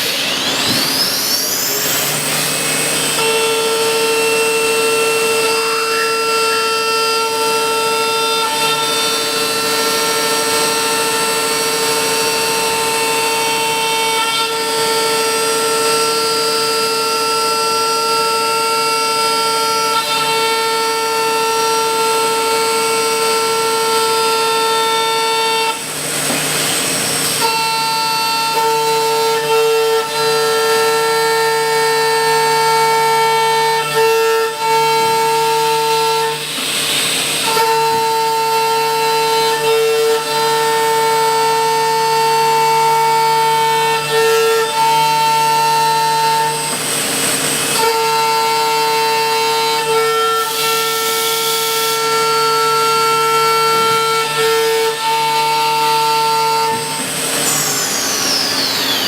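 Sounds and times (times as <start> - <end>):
machine spindle high whine: 0.0 - 59.0.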